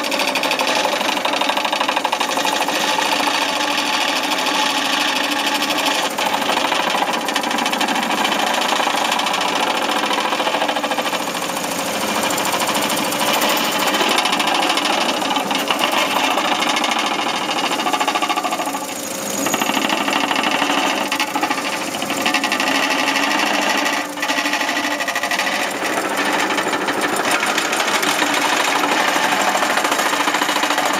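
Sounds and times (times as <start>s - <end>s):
vibrating compaction bucket rattling: 0.0s - 30.9s.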